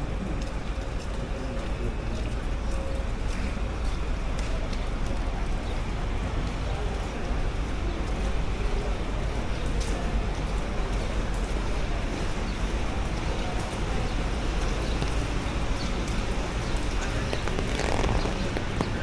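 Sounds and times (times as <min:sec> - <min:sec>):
faint voices: 0:00.0 - 0:19.0
rain street noise rumble: 0:00.0 - 0:19.0.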